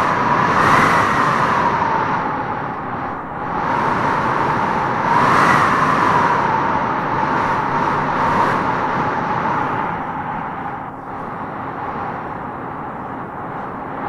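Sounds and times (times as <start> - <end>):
howling wind gusting: 0.0 - 14.0.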